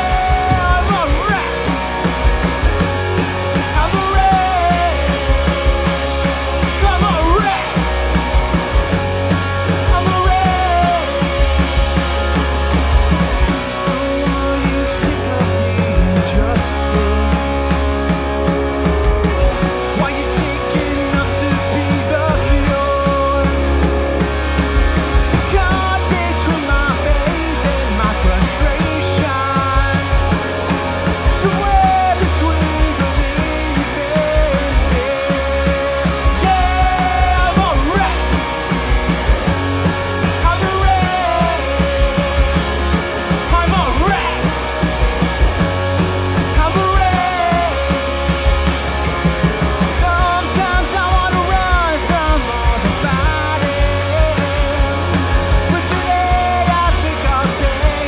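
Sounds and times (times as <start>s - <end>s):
man singing: 0.0s - 12.4s, 13.4s - 18.1s, 19.8s - 24.0s, 25.2s - 38.8s, 40.2s - 44.9s, 45.9s - 49.0s, 49.8s - 58.0s
punk rock band playing: 0.0s - 58.0s.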